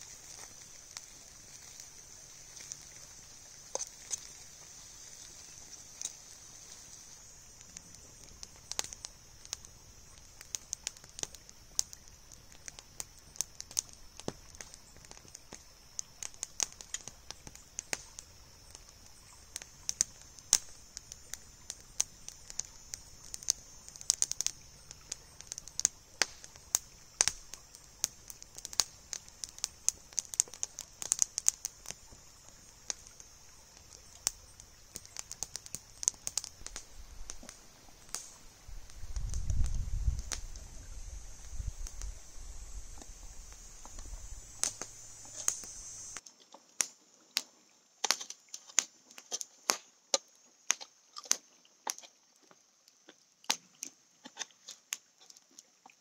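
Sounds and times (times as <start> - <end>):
steady high hiss: 0.0 - 50.8
campfire crackling and popping: 0.0 - 56.0.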